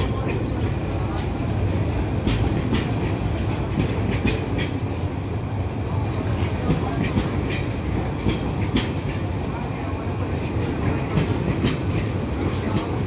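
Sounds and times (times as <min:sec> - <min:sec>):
train rumble: 0:00.0 - 0:13.0
wheels clacking on track: 0:00.0 - 0:13.0.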